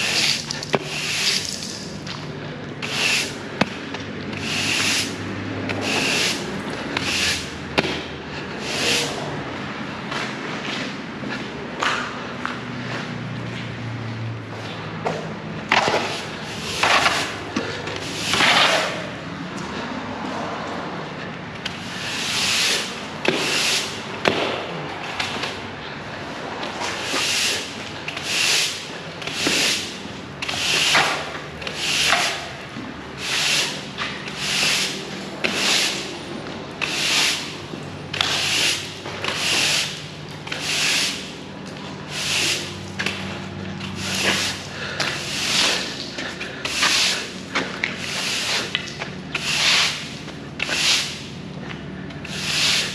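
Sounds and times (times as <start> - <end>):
push broom sweeping concrete: 0.0 - 12.1, 14.6 - 19.9, 21.6 - 52.9.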